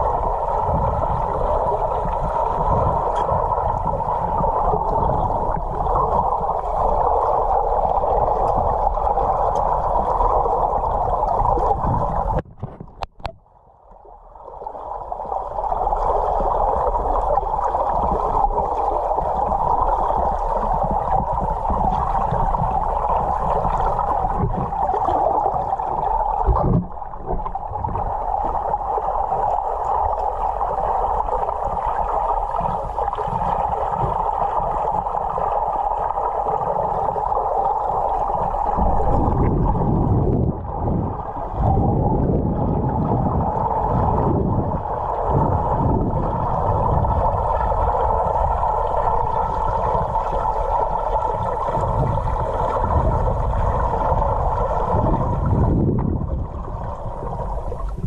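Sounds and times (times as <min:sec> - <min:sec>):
low underwater rumbles: 0:00.0 - 0:58.0.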